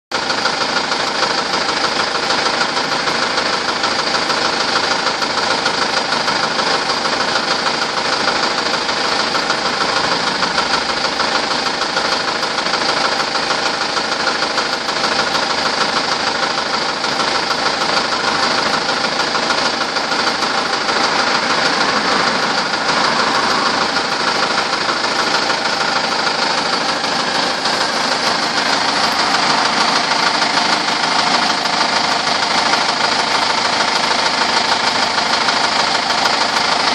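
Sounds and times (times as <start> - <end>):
engine running with knocking: 0.1 - 36.9.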